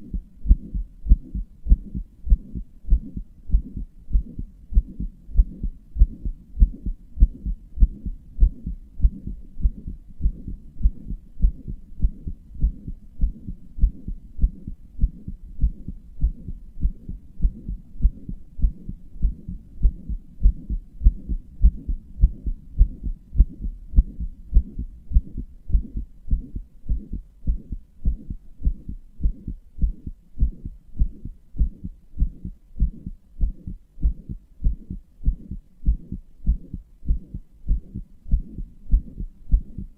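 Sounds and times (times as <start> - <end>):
heartbeat thumps: 0.0 - 39.9
low hum between heartbeats: 0.0 - 39.9.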